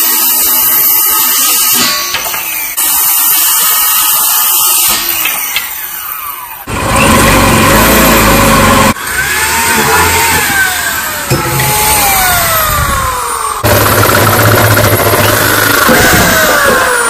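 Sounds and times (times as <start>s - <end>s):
circular saw cutting wood: 0.0s - 17.0s
power drill boring into metal: 0.0s - 17.0s.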